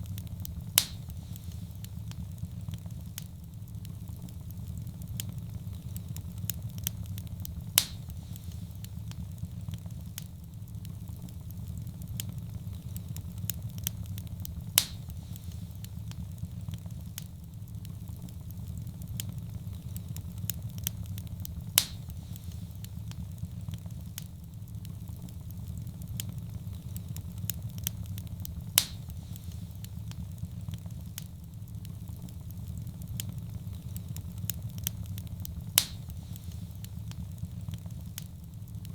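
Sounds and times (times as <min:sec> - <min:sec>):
fire crackling: 0:00.0 - 0:38.9
fire flames rumbling: 0:00.0 - 0:38.9
wood fire popping: 0:00.0 - 0:38.9.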